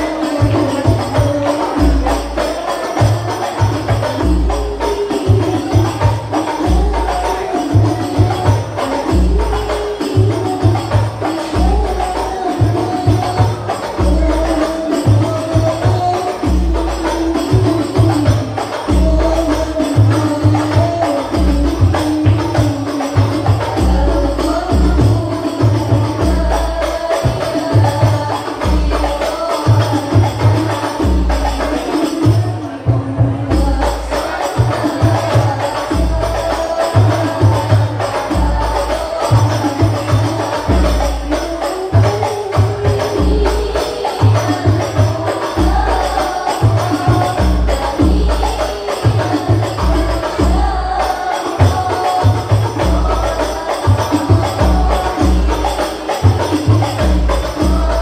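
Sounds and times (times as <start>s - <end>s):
women singing into microphones: 0.0s - 58.0s.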